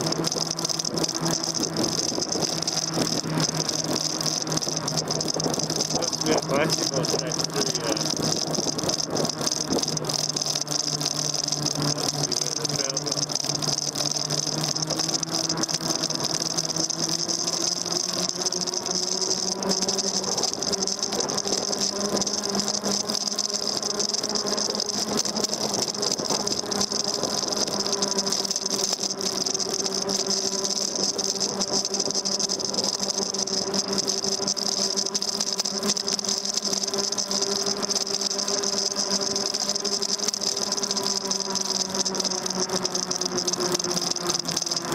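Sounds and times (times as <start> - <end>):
bike parts rattling: 0.0 - 44.9
electric motor whining: 0.0 - 44.9.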